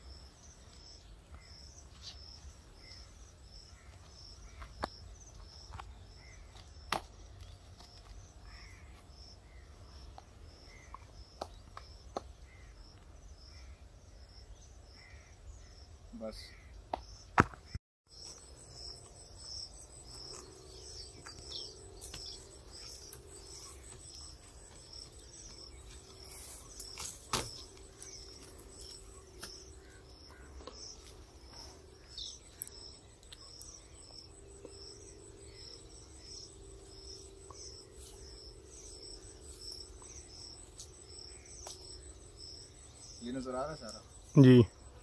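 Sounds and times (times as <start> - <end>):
insects chirping: 0.0 - 17.5, 18.1 - 45.0.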